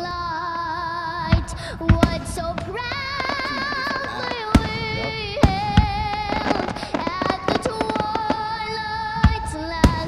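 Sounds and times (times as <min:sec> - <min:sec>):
music with woman singing: 0:00.1 - 0:10.0
fireworks banging: 0:01.2 - 0:10.0.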